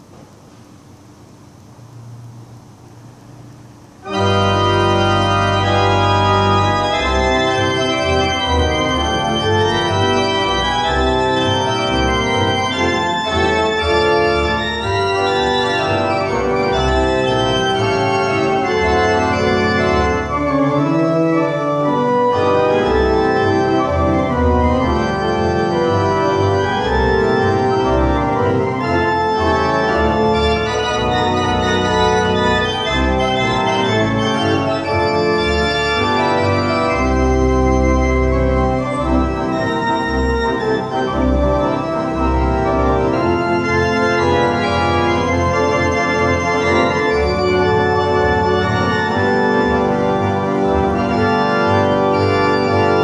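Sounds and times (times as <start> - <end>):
pipe organ playing lively tune: 4.0 - 53.0.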